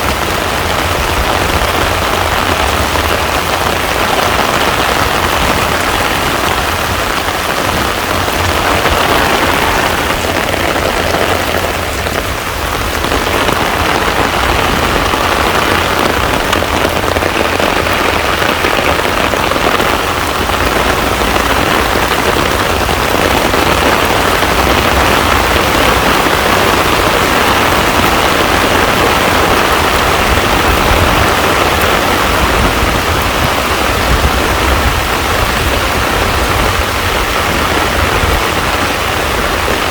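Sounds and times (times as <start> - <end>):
heavy rain on a pond: 0.0 - 39.9.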